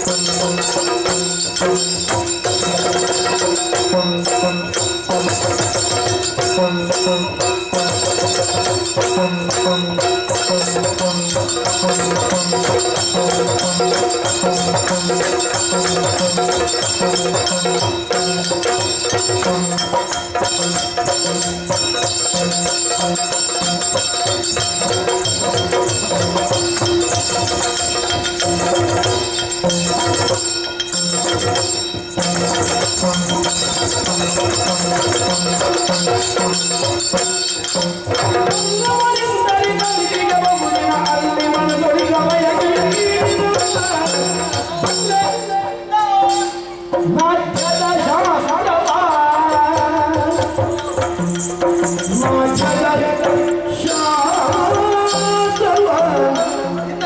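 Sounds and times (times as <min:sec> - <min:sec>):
drums playing rhythmic pattern: 0:00.0 - 0:57.0.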